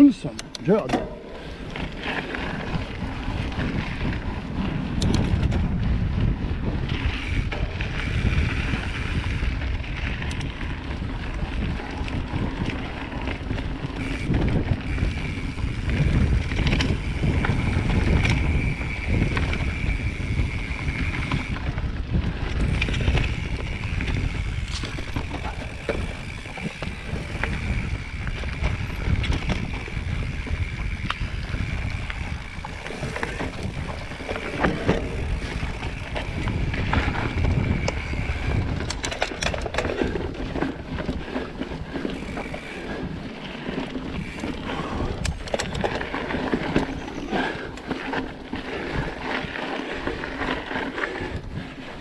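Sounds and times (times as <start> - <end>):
bike rattling and knocking: 0.0 - 52.0
bike tyres rolling on dirt: 0.0 - 52.0.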